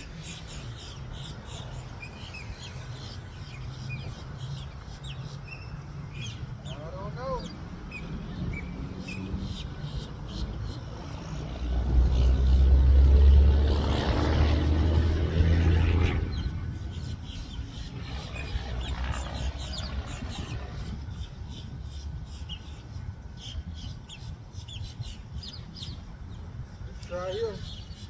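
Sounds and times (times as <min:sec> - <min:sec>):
small birds chirping: 0:00.0 - 0:11.6, 0:16.2 - 0:28.0.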